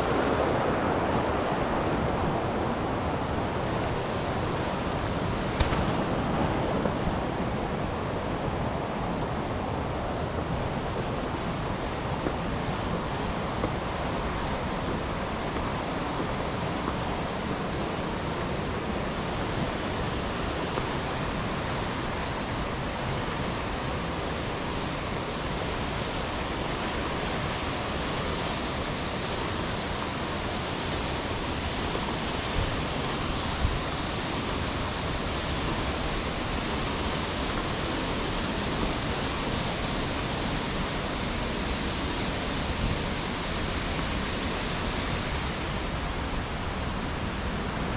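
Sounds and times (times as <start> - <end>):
stream water flowing: 0.0 - 47.9.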